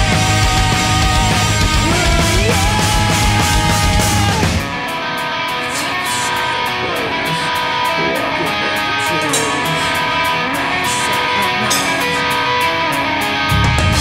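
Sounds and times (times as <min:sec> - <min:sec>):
electric guitars ringing: 0:00.0 - 0:14.0.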